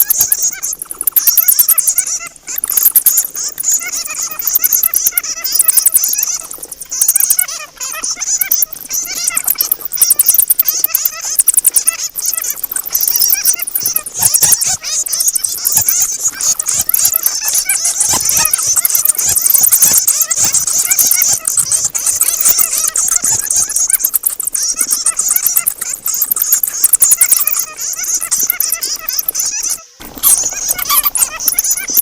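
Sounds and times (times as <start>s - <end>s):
bats chittering: 0.0s - 32.0s.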